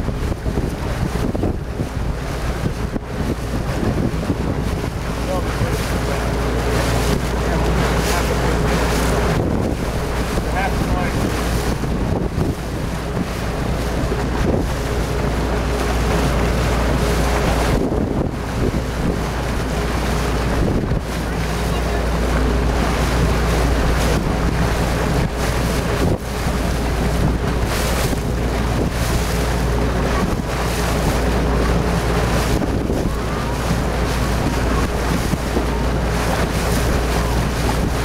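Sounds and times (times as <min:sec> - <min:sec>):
choppy water splashing: 0:00.0 - 0:38.0
wind buffeting microphone: 0:00.0 - 0:38.0.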